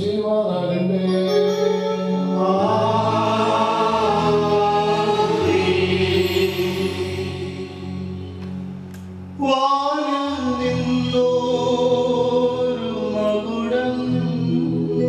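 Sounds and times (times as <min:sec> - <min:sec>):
devotional singing: 0:00.0 - 0:08.4, 0:09.4 - 0:15.0
sustained instrumental chords: 0:01.1 - 0:15.0.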